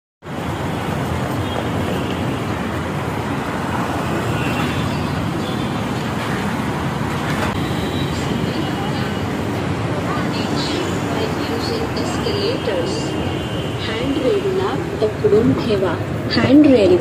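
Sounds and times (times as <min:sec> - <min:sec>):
busy metro station din: 0:00.2 - 0:17.0.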